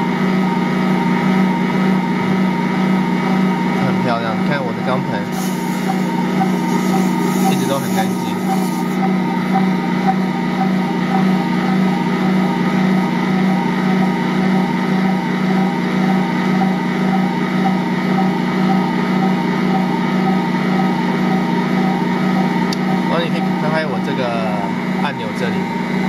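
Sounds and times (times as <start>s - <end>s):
stand mixer motor humming: 0.0s - 26.0s.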